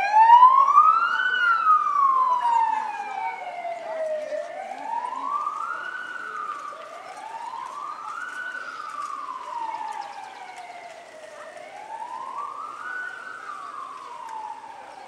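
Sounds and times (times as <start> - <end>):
vehicle siren wailing: 0.0 - 15.0.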